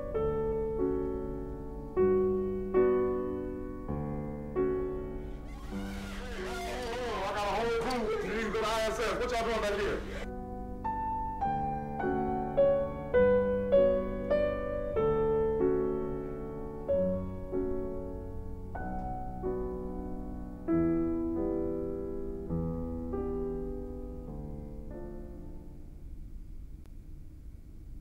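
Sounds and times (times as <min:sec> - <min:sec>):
soft piano melody: 0:00.0 - 0:06.1, 0:09.6 - 0:26.8.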